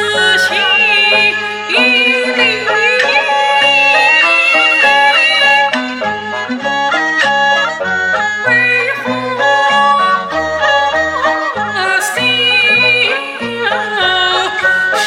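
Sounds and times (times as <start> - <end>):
opera aria with fiddle ensemble: 0.0 - 15.0.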